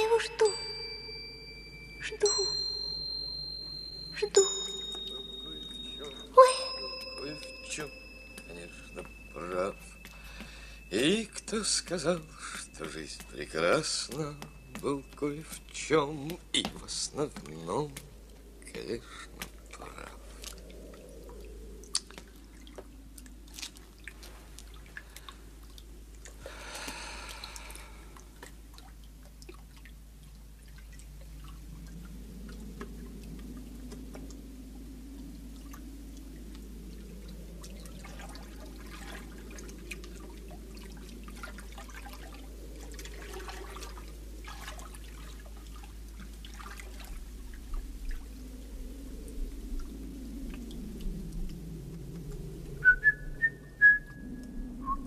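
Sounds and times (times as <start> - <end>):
water dripping and trickling: 2.2 - 54.8.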